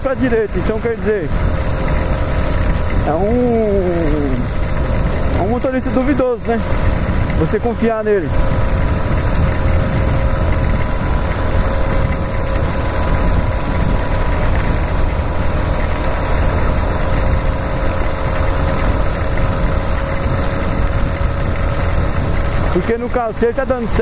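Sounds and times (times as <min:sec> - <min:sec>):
motorcycle engine running: 0:00.0 - 0:24.0
road noise: 0:00.0 - 0:24.0
wind rushing: 0:01.2 - 0:22.8.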